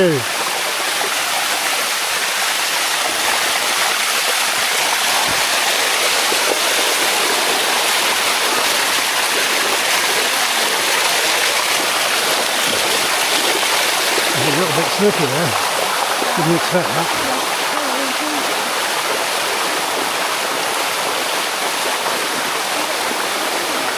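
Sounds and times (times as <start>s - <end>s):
waterfall flowing: 0.0s - 23.9s.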